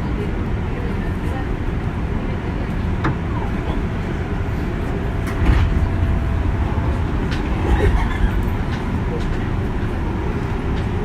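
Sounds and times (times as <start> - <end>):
train wheels and traction rumble: 0.0 - 11.0.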